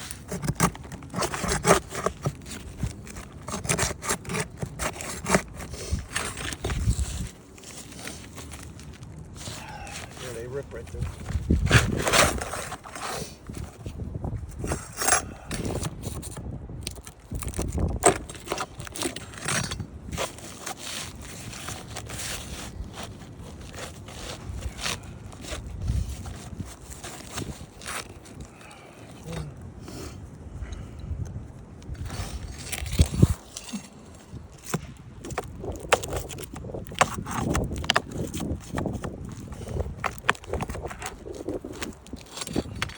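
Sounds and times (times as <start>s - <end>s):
shingles scraping and crackling: 0.0s - 29.6s, 31.8s - 42.9s.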